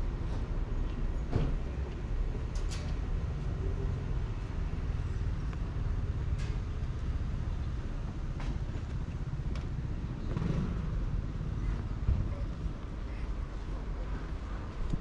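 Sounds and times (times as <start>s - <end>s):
steady low street rumble: 0.0s - 15.0s.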